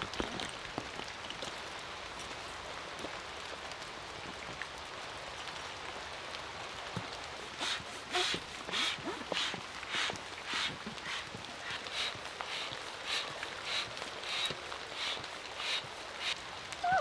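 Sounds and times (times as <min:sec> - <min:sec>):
raindrops pattering: 0:00.0 - 0:17.0
steady rain: 0:00.0 - 0:17.0.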